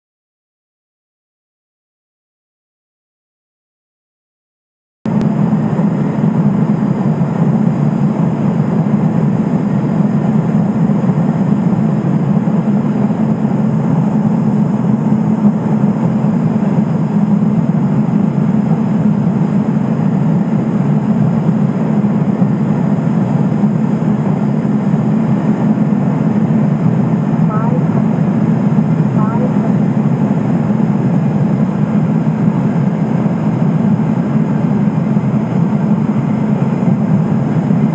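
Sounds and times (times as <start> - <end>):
aircraft engine and propeller drone: 5.1 - 37.9.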